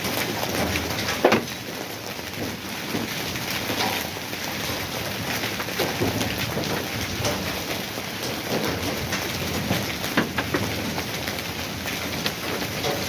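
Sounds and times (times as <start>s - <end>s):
heavy rain falling: 0.0s - 13.0s
raindrop impacts: 0.0s - 13.0s.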